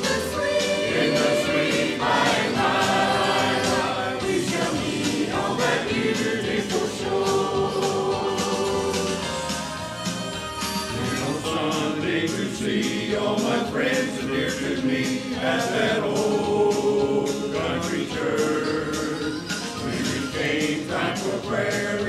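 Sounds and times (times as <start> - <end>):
choir singing gospel: 0.0 - 22.0
instrumental accompaniment with beat: 0.0 - 22.0.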